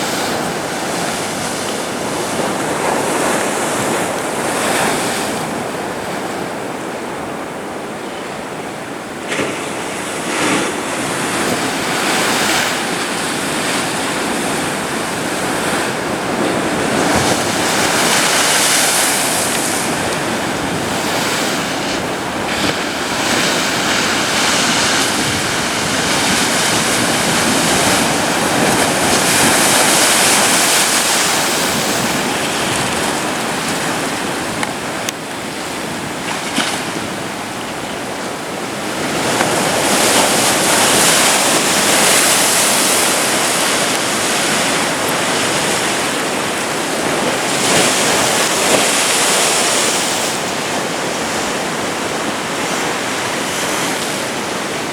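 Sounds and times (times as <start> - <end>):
ocean surf breaking: 0.0 - 54.9.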